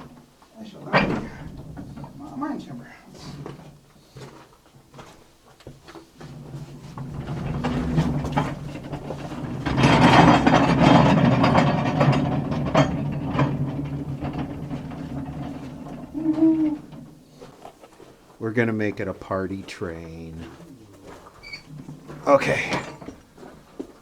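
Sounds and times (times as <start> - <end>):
mine car rolling on rails: 0.0 - 4.0, 6.1 - 24.0.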